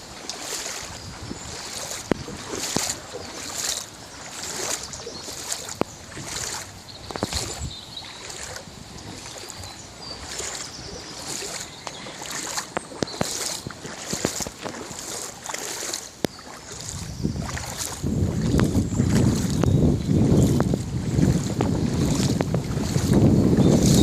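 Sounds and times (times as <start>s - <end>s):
floodwater splashing and sloshing: 0.0s - 24.0s.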